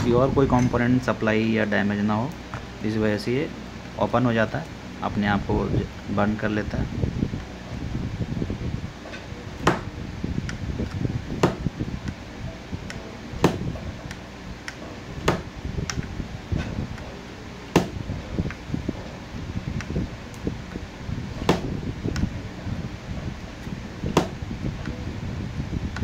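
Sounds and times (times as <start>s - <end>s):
low rumbling background: 0.0s - 26.0s.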